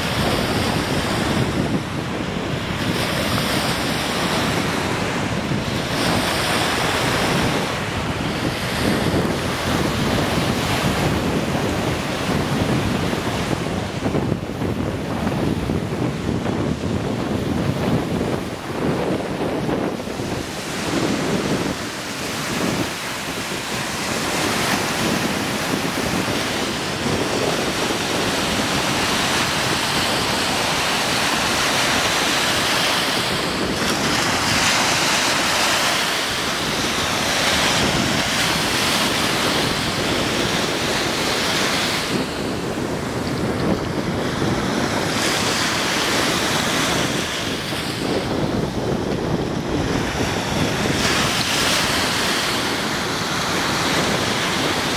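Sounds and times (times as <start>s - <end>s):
waves washing on sandy shore: 0.0s - 54.9s
wind buffeting microphone: 0.0s - 54.9s.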